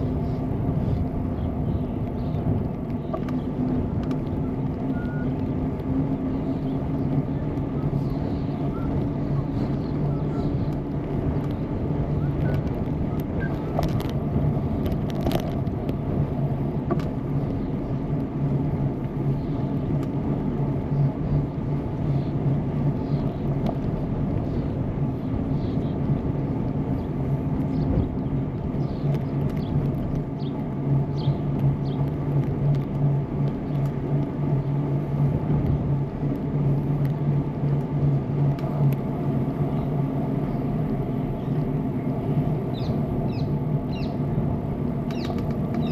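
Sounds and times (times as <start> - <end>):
bicycle tyres rolling: 0.0 - 45.9.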